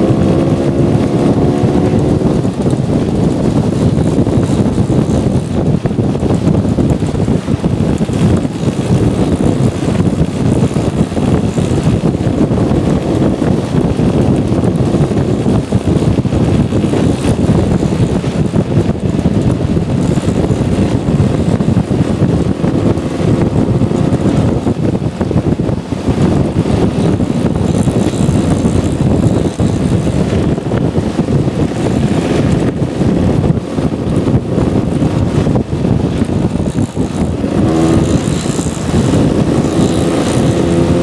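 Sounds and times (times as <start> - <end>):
scooter engines running: 0.0 - 41.0
wind buffeting microphone: 0.0 - 41.0.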